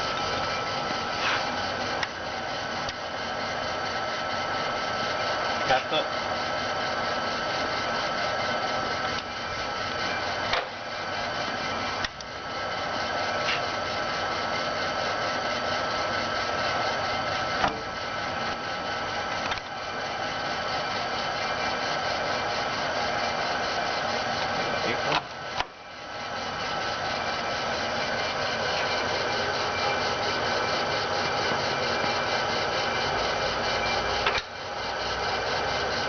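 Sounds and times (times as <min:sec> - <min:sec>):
lathe running: 0:00.0 - 0:36.0.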